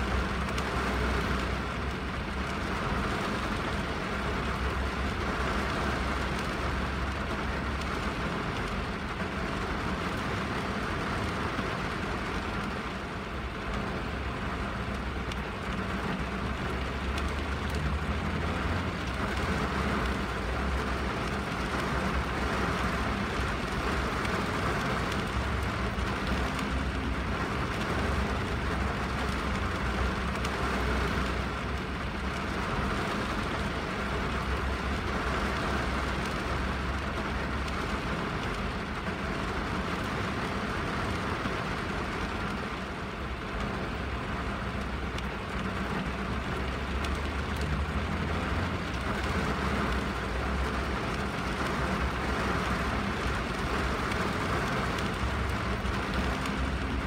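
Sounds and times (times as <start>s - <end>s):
rain on window and roof: 0.0s - 57.0s.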